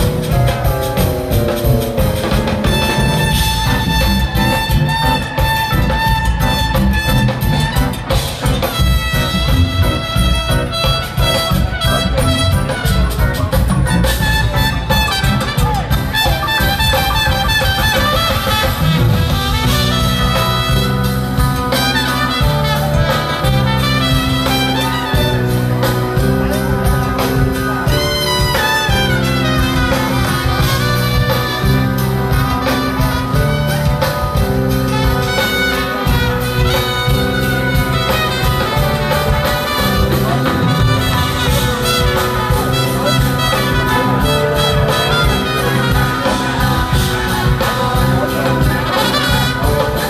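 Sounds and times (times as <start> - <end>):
jazz band playing loudly: 0.0 - 50.0
trumpet: 0.0 - 50.0.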